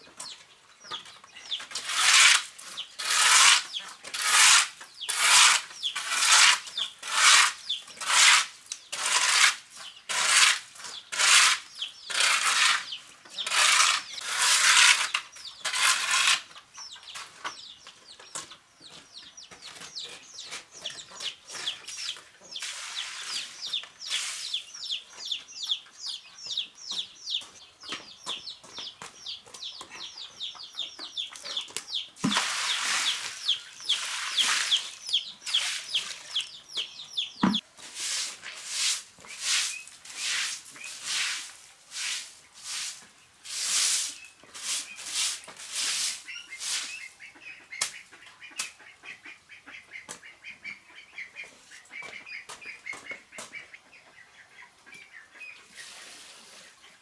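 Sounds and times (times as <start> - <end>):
chicks peeping: 0.0 - 8.0, 9.7 - 14.3, 15.0 - 37.6, 44.1 - 57.0.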